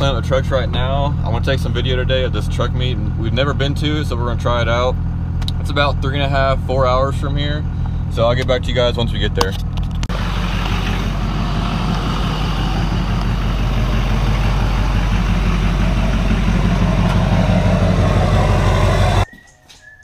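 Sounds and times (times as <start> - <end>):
diesel pickup engine idling: 0.0 - 19.3.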